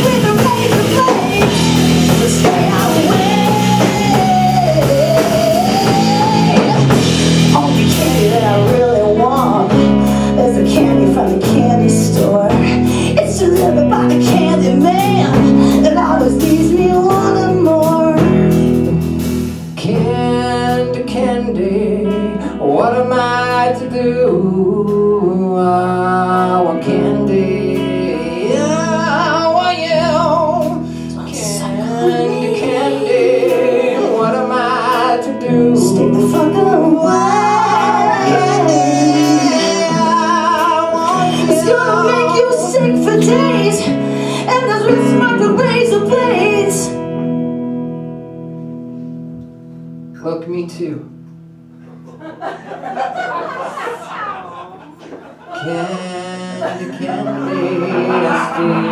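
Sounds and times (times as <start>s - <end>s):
man singing: 0.0s - 18.4s, 19.8s - 47.0s, 55.5s - 58.9s
woman singing: 0.0s - 19.0s, 19.8s - 47.4s, 55.5s - 58.9s
live rock band playing: 0.0s - 50.2s, 51.1s - 55.5s, 56.4s - 58.9s.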